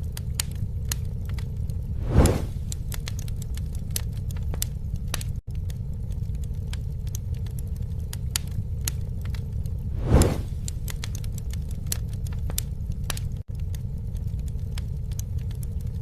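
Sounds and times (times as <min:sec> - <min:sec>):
campfire crackling and popping: 0:00.0 - 0:16.0
low rumble of fire: 0:00.0 - 0:16.0.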